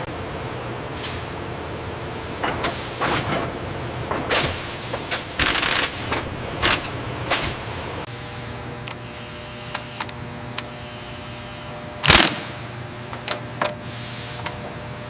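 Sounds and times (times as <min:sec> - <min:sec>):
sawmill machinery humming: 0:00.0 - 0:15.0.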